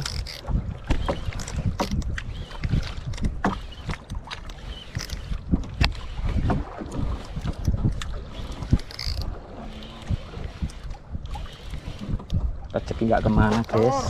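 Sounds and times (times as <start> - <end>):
boat knocks and thuds: 0.0 - 14.0
wind and water rumbling: 0.0 - 14.0.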